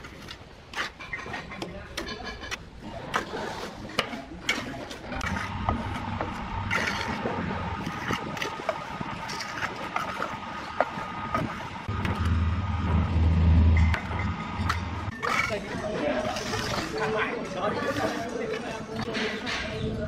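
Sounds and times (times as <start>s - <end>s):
steel trowel scraping mortar: 0.0s - 12.3s, 14.6s - 19.5s.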